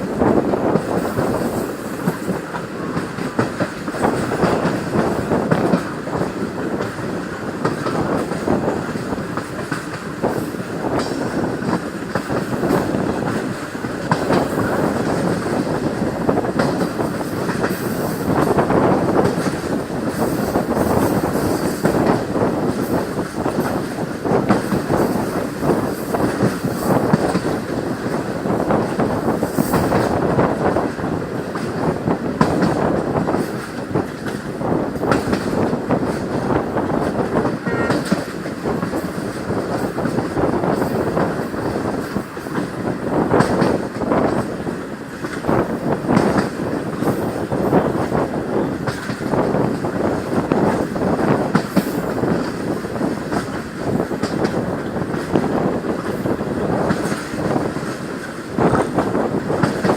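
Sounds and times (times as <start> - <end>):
train wheels rattling on rails: 0.0 - 59.9.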